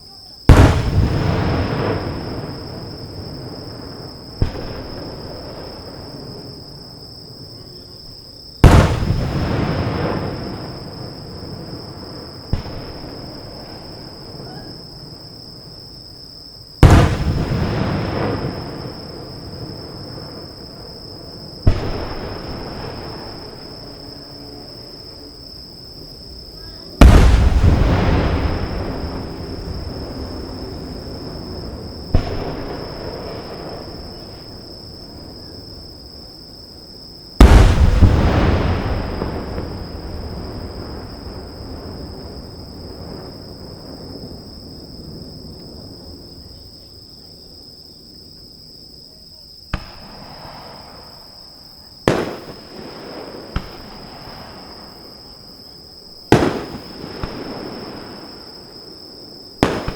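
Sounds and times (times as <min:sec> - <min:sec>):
fireworks crack: 0:00.0 - 0:16.1, 0:16.7 - 0:36.4, 0:37.2 - 0:46.6, 0:49.7 - 0:59.9
sharp fireworks bangs: 0:00.4 - 0:07.9, 0:08.6 - 0:15.8, 0:16.8 - 0:36.2, 0:37.3 - 0:46.5, 0:49.7 - 0:59.9
fireworks booms with rumbling echo: 0:00.4 - 0:48.2, 0:48.9 - 0:59.9.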